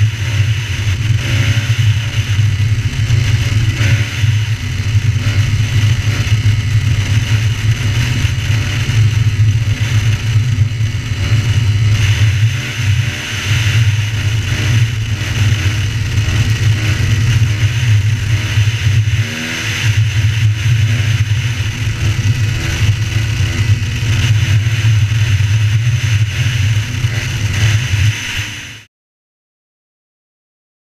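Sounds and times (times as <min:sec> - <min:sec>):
dirt bike engine running hard: 0:00.0 - 0:28.9.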